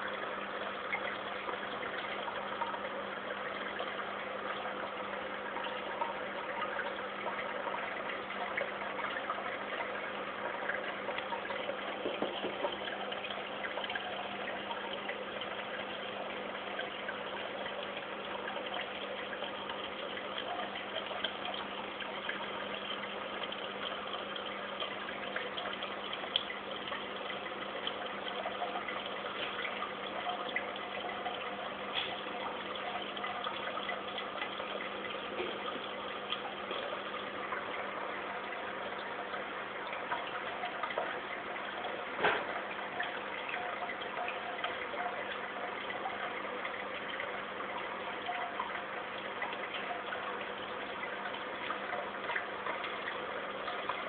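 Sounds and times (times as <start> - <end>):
aquarium filter water trickling: 0.0 - 54.0.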